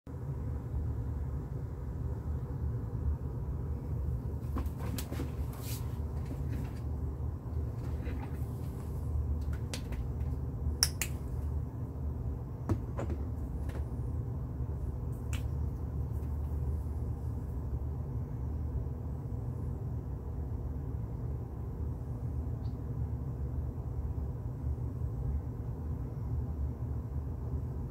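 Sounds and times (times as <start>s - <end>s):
steady low hum: 0.1s - 27.9s.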